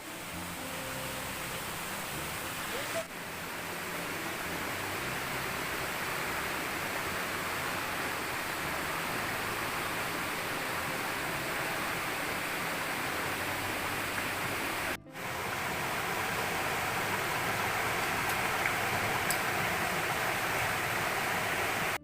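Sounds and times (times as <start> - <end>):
waterfall pouring: 0.0 - 22.0.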